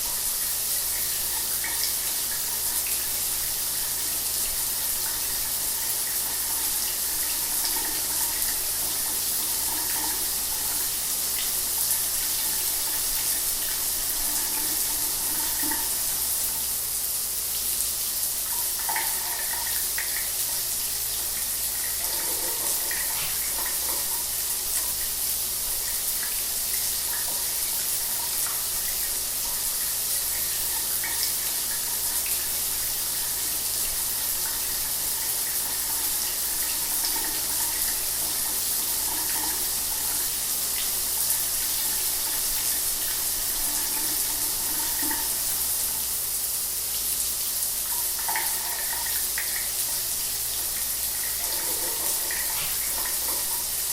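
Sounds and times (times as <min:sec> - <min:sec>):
shower water running: 0:00.0 - 0:53.9.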